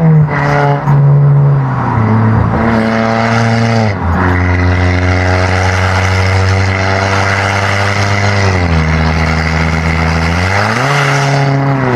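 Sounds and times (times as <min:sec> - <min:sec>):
turbocharged car engine running: 0:00.0 - 0:11.9.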